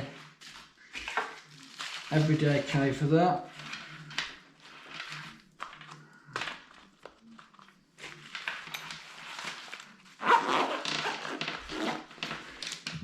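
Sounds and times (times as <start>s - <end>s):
gear rustling: 0.5s - 13.0s.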